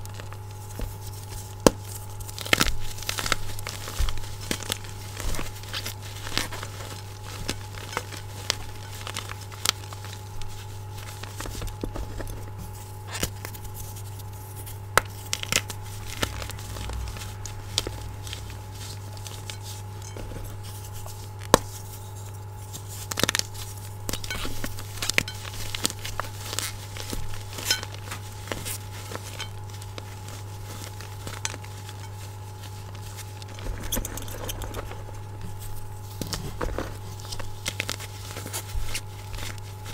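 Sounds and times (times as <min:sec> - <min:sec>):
steady low hum: 0:00.0 - 0:39.9
chalk crunching between hands: 0:00.3 - 0:33.9.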